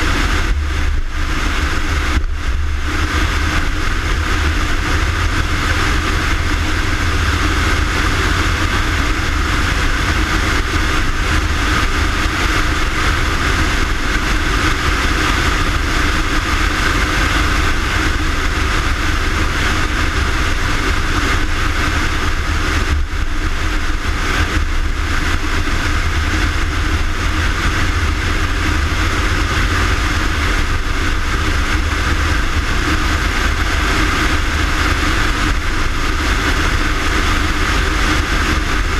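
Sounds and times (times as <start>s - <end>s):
fire engine droning: 0.0s - 38.9s.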